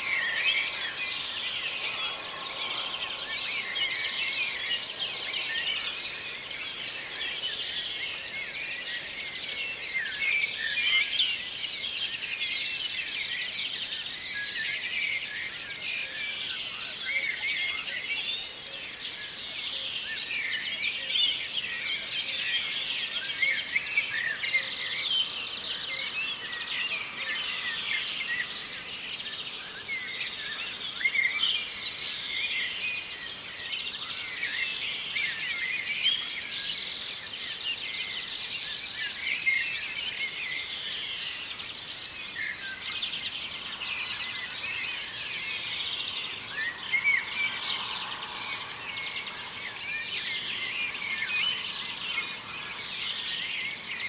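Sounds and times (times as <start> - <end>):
many songbirds singing: 0.0 - 54.0.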